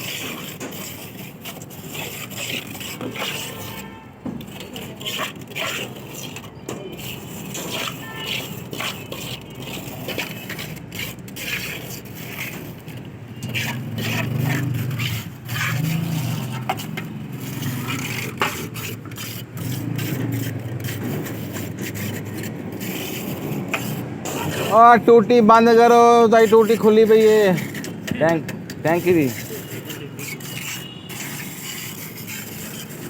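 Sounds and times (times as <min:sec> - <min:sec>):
scraping with clicks and knocks: 0:00.0 - 0:33.0.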